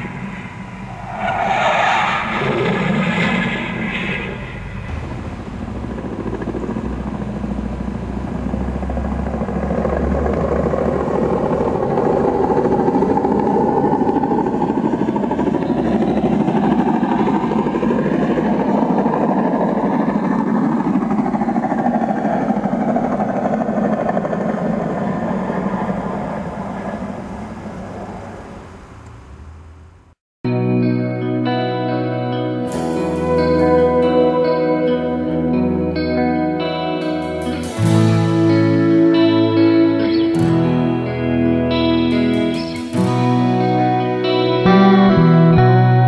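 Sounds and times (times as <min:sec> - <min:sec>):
helicopter rotor chop and whine: 0:00.0 - 0:01.2, 0:02.2 - 0:29.8, 0:32.4 - 0:45.4.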